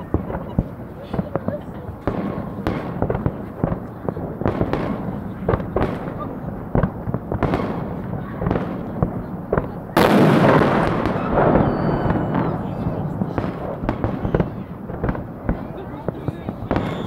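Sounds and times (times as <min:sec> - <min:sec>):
crowd voices: 0:00.0 - 0:17.0
fireworks bangs: 0:00.0 - 0:17.0.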